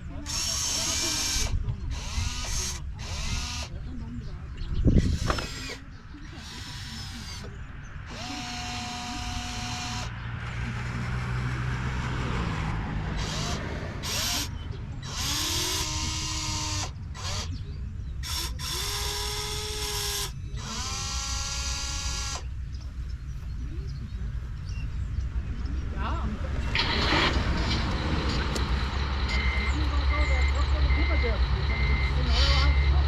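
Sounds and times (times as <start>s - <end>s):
model machine motors whining: 0.0s - 3.8s, 4.8s - 17.6s, 18.2s - 22.5s, 26.8s - 33.0s.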